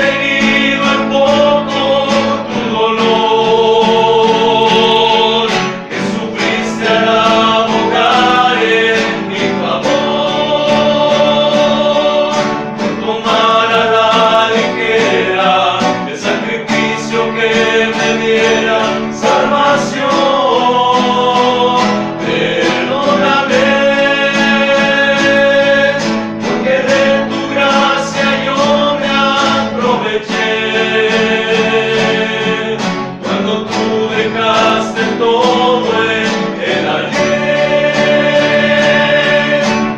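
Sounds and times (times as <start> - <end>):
male group singing: 0.0 - 39.9
strummed and plucked guitars: 0.0 - 39.9.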